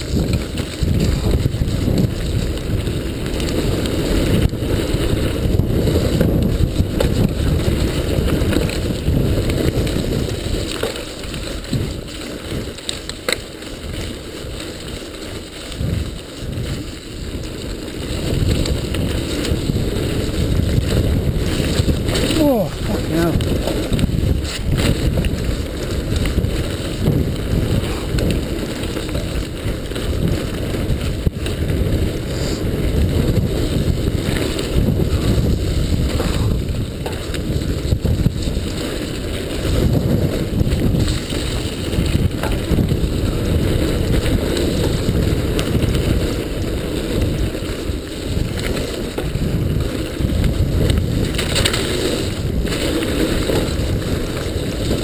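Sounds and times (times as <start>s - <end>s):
bike knocks and rattles: 0.0s - 22.5s, 23.4s - 55.0s
bike tyres rumbling over ground: 0.0s - 55.0s
wind buffeting microphone: 0.0s - 55.0s.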